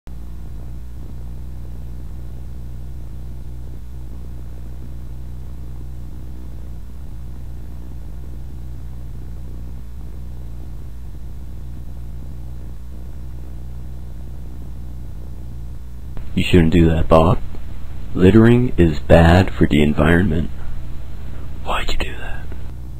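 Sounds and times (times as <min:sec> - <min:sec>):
steady low hum: 0:00.1 - 0:22.9.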